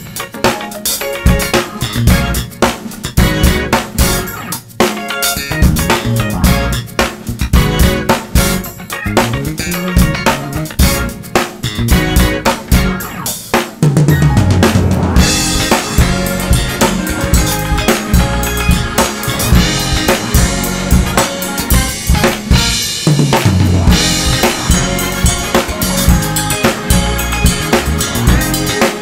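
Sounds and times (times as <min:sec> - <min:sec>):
backing music track with bass: 0:00.0 - 0:29.0
drum kit groove: 0:00.0 - 0:29.0.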